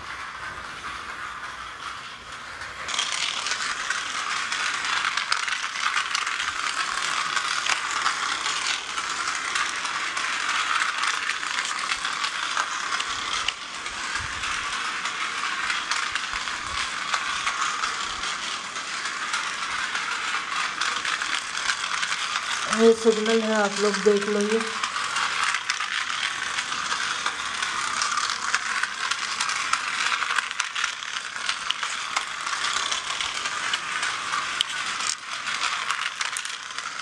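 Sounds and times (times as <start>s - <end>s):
toy train rapid clatter: 0.0s - 37.0s.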